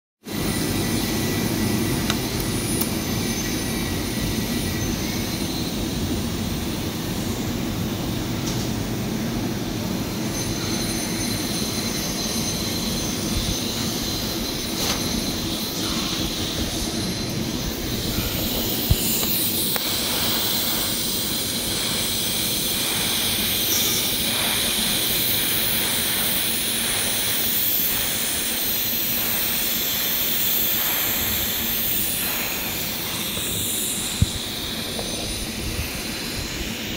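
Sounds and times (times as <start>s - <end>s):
welding arc hissing: 0.3s - 36.9s
workshop machinery rumble: 0.3s - 36.9s.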